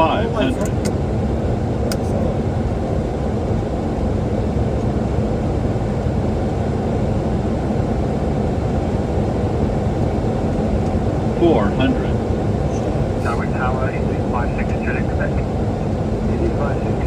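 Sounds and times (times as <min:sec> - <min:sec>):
airflow and aircraft engines: 0:00.0 - 0:17.0.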